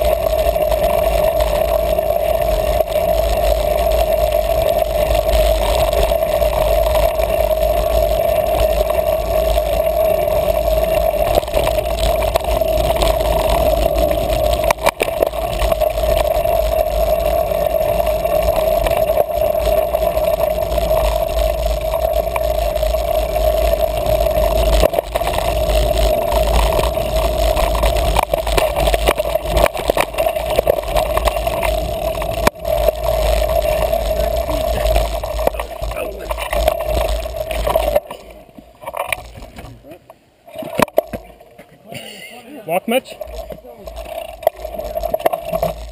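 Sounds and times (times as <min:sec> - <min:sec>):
muffled wind and tyre rumble: 0:00.0 - 0:41.8, 0:42.9 - 0:45.9
constant hum: 0:00.0 - 0:45.9.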